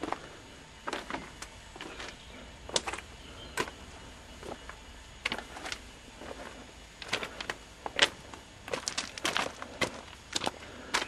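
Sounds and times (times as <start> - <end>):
footsteps: 0.0 - 3.8, 4.4 - 11.0
faint background hiss: 0.0 - 11.0.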